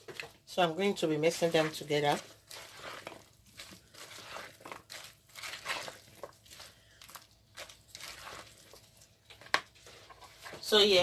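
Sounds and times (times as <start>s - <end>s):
salad tossed in a bowl: 1.3s - 10.6s.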